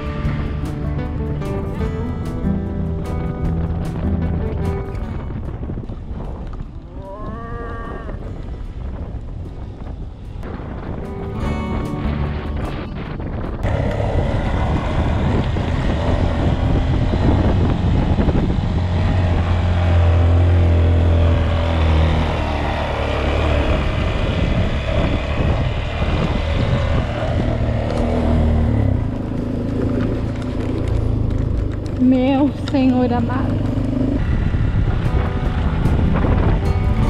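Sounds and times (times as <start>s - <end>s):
motorcycle engine running: 0.0s - 7.0s, 7.8s - 37.0s.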